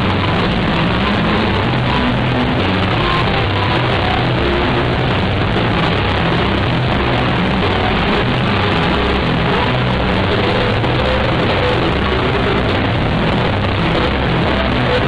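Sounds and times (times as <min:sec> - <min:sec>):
bass guitar: 0:00.0 - 0:15.0
drum kit: 0:00.0 - 0:15.0
electric guitar: 0:00.0 - 0:15.0.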